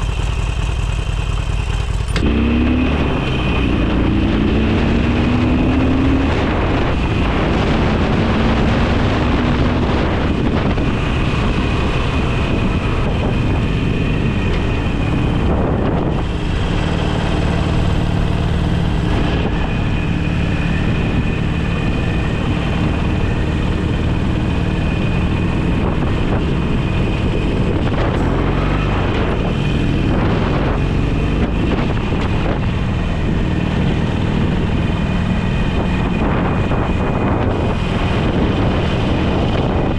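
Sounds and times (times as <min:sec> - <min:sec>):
motorcycle engine running: 0:00.0 - 0:39.9
wind rushing over microphone: 0:02.2 - 0:39.9.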